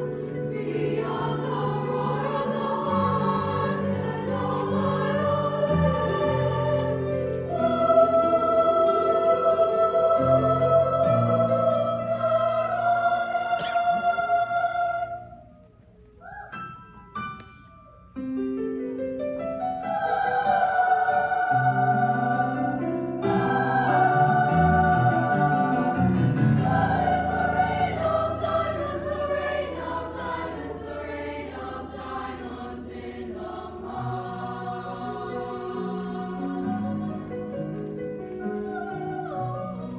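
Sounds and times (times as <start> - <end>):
piano accompaniment: 0.0 - 15.1, 16.5 - 39.9
women's choir singing: 0.0 - 15.7, 19.6 - 39.9.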